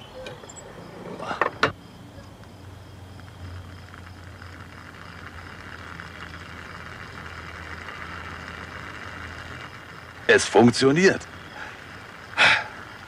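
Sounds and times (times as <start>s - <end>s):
small electric fan motor whirring: 0.0s - 13.0s.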